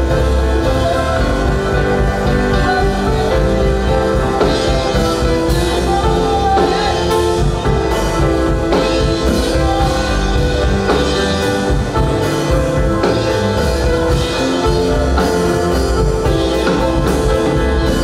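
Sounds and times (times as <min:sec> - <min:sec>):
worship band playing: 0:00.0 - 0:18.0.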